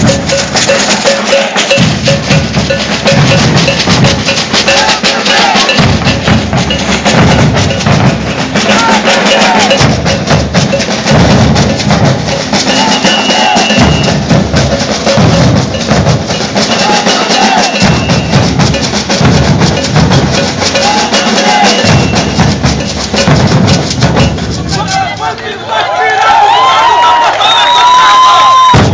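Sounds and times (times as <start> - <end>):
bass drums pounding: 0.0 - 25.2, 28.7 - 28.9
shakers: 0.0 - 25.2
snare drums: 0.0 - 25.4, 28.4 - 28.9.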